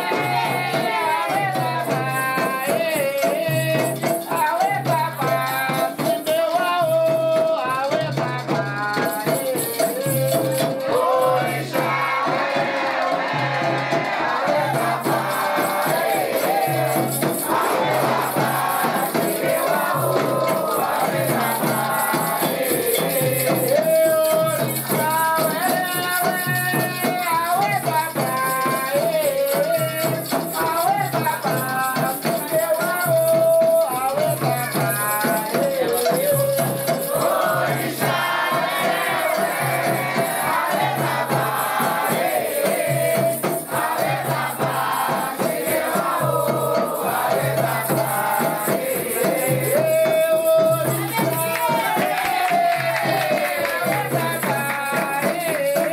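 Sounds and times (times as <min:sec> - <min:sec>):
group singing a chant: 0:00.0 - 0:55.9
shaken rattles: 0:00.0 - 0:55.9
steady low drum beat: 0:06.9 - 0:32.0, 0:33.3 - 0:55.9.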